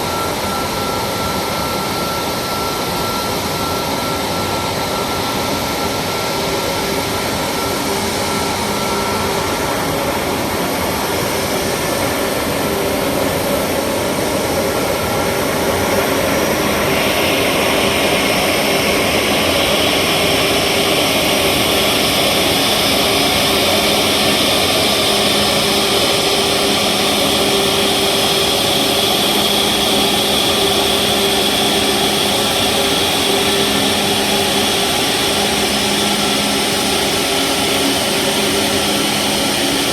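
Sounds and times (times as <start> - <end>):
jet engines heard from cabin: 0.0 - 39.9.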